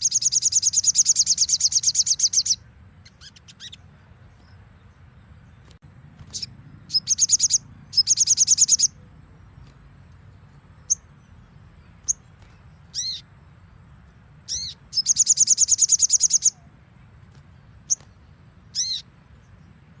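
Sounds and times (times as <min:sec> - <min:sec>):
sunbird trills and calls: 0:00.0 - 0:09.8, 0:10.5 - 0:13.8, 0:14.4 - 0:19.7.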